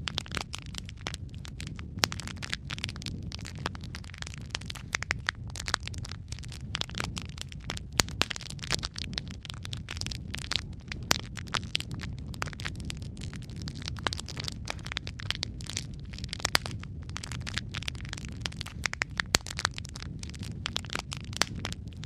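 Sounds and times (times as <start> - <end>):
burning logs low rumble: 0.0 - 22.0
fire popping and snapping: 0.0 - 22.0.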